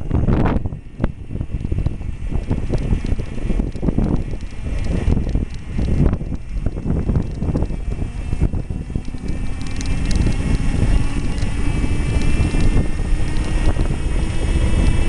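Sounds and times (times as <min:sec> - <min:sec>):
electric motor whine: 0:00.0 - 0:15.0
wind buffeting microphone: 0:00.0 - 0:15.0.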